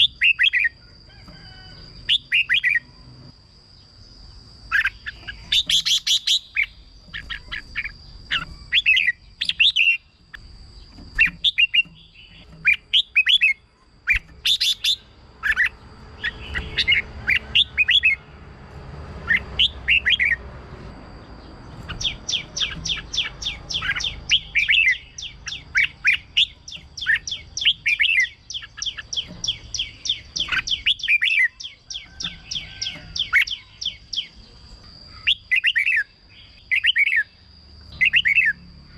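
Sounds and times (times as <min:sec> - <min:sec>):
bulbul chirping song: 0:00.0 - 0:18.4, 0:19.1 - 0:38.9.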